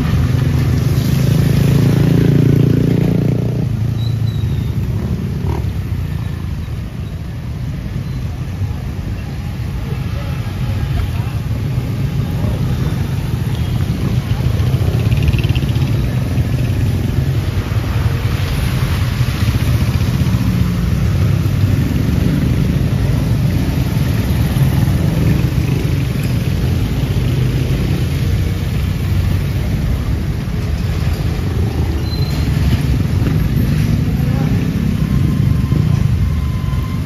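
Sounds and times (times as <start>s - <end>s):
vehicle engines rumbling: 0.0s - 37.0s.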